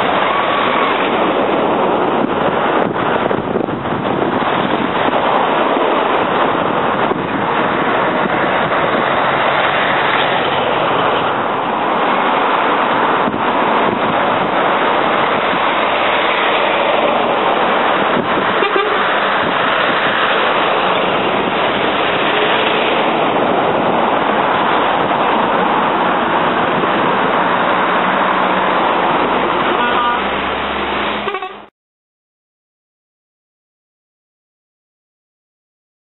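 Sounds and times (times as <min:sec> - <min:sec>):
wind on microphone: 0:00.0 - 0:31.5
trucks and cars passing: 0:00.0 - 0:31.7.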